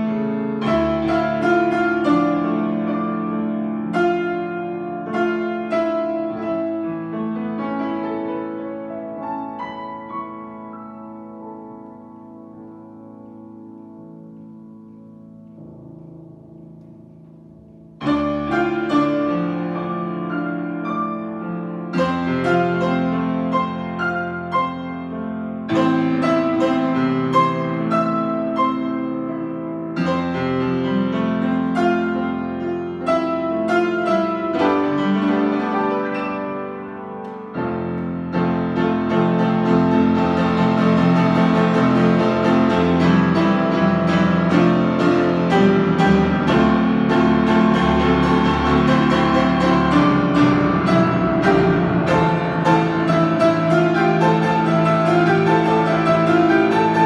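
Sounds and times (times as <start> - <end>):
piano chords: 0.0 - 57.0.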